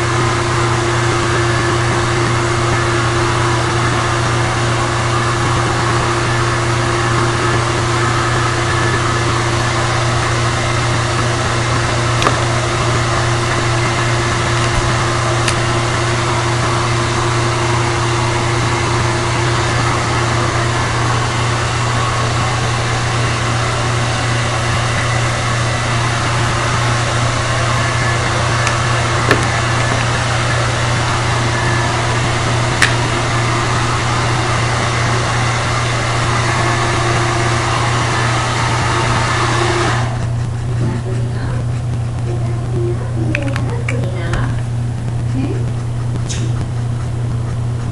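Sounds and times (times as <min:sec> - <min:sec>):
machine hum with hiss: 0:00.0 - 0:47.9.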